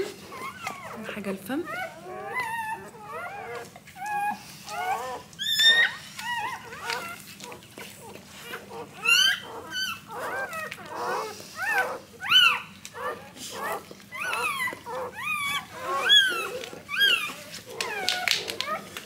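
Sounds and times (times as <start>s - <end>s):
puppies squealing: 0.0s - 19.0s.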